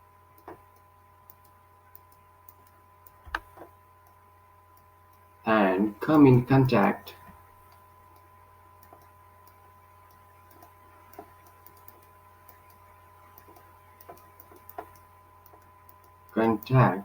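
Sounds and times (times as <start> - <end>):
faint irregular ticks and clicks: 0.0 - 5.5, 6.1 - 17.0
steady low hum: 0.0 - 17.0.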